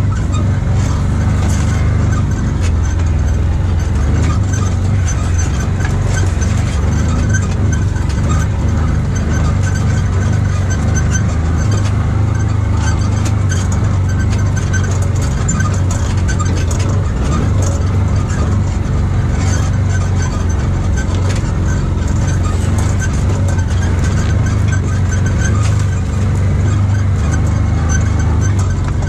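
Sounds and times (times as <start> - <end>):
small knocks and rattles: 0.0 - 29.0
utility vehicle engine running: 0.0 - 29.0.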